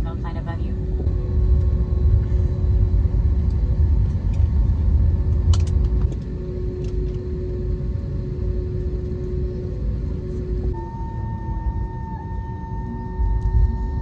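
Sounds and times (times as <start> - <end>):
aircraft cabin rumble: 0.0 - 14.0
constant hum: 0.0 - 14.0.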